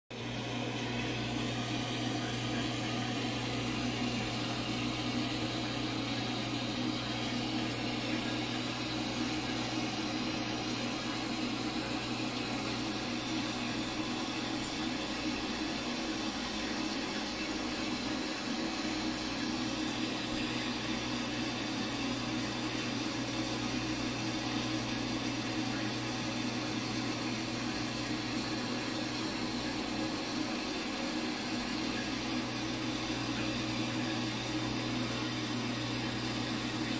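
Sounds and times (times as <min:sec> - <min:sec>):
low mechanical hum: 0:00.1 - 0:36.9.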